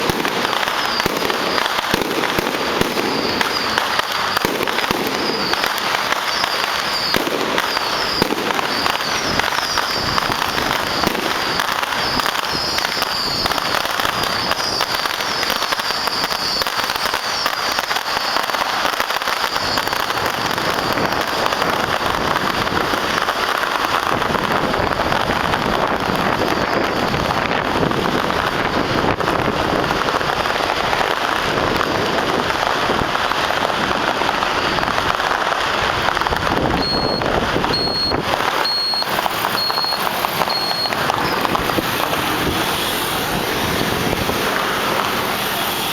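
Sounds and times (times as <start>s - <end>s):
firecrackers crackling: 0.0s - 45.9s.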